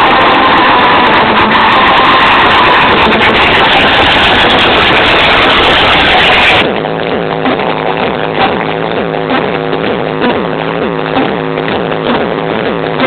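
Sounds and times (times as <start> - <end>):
distorted loud car stereo music: 0.0 - 13.0.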